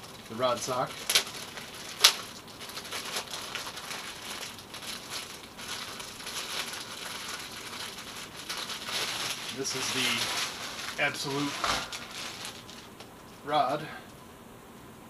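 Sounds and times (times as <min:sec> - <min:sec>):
plastic wrapping crinkling: 0:00.0 - 0:13.5.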